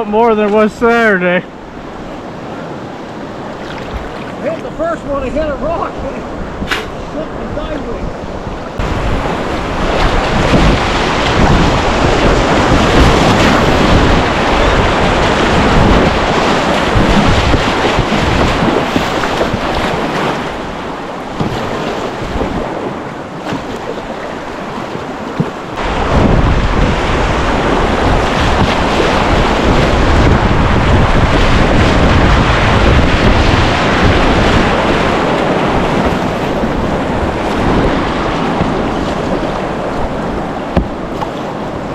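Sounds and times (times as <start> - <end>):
surf rushing: 0.0 - 41.9
wind buffeting microphone: 0.0 - 41.9.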